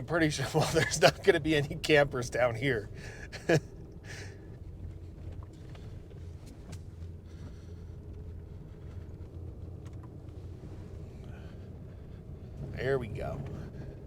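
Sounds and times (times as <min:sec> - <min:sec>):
truck engine and road hum: 0:00.0 - 0:14.0.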